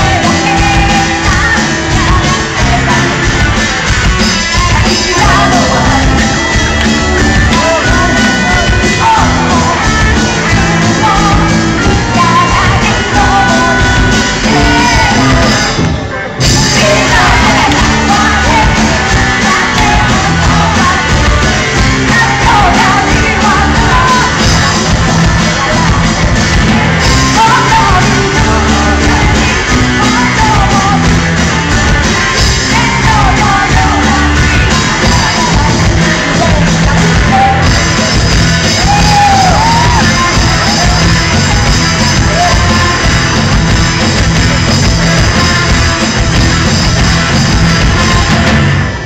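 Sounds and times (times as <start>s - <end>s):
person singing lead vocal: 0.0s - 49.0s
rock band playing: 0.0s - 49.0s.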